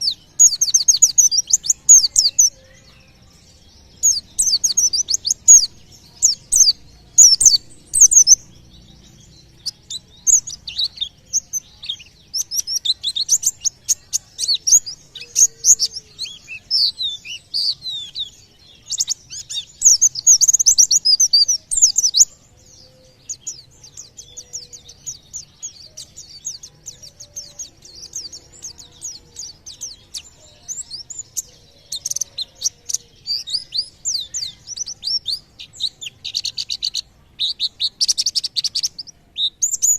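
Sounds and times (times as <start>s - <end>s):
bird twittering chirps and trills: 0.0s - 39.9s.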